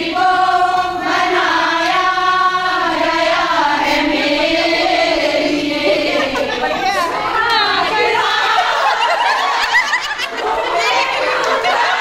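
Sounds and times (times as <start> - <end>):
group of women singing: 0.0 - 12.0.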